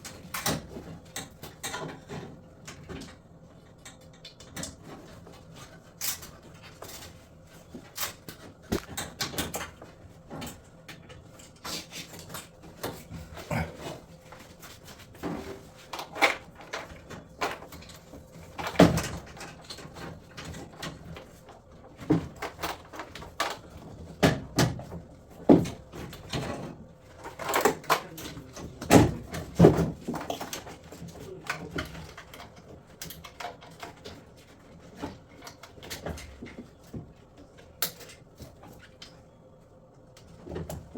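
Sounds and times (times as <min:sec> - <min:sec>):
tools knocking and clicking on parts: 0:00.0 - 0:14.0, 0:15.2 - 0:39.2.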